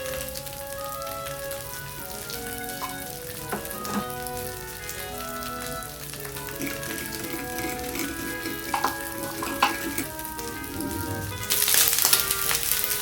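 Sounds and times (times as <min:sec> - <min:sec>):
background music: 0:00.0 - 0:13.0
food sizzling in frying pan: 0:00.0 - 0:13.0.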